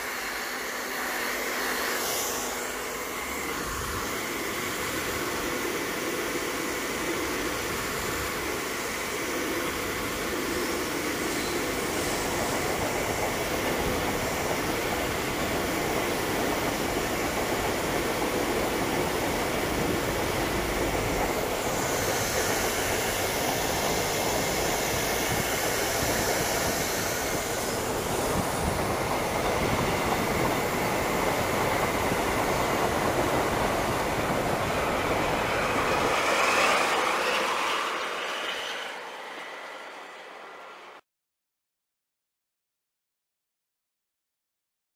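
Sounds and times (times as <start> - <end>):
snowplow locomotive rumble: 2.4 - 41.0.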